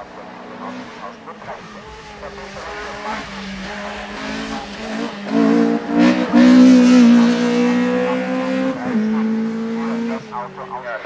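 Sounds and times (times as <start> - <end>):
race car engine passing: 0.0 - 11.0.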